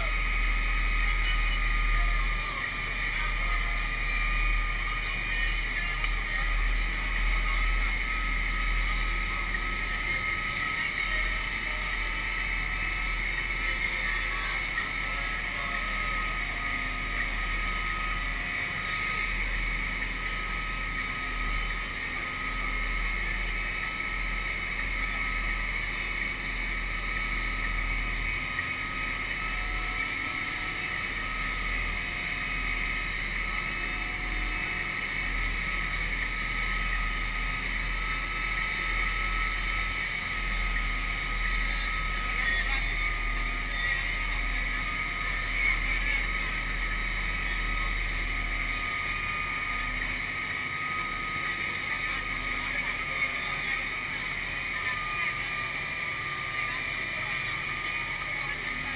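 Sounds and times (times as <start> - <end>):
engine drone with whine: 0.0 - 58.9.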